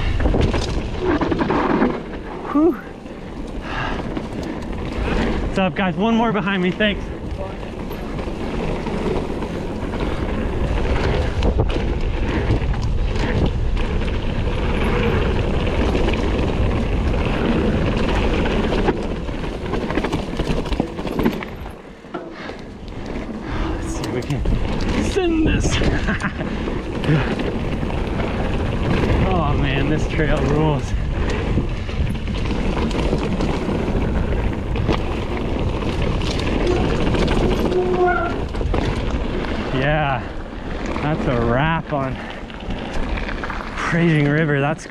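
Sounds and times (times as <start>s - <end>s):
mountain bike clattering: 0.0s - 44.9s
tyre noise on dirt trail: 0.0s - 44.9s
wind buffeting microphone: 0.0s - 44.9s.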